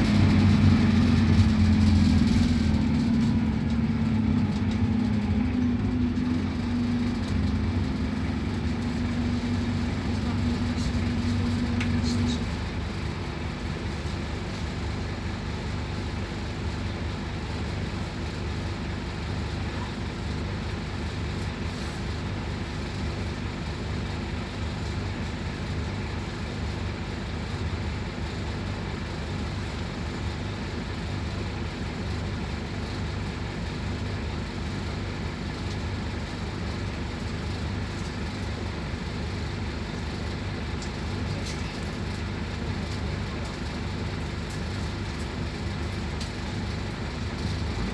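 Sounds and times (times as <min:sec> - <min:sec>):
bus engine and road drone: 0:00.0 - 0:47.9.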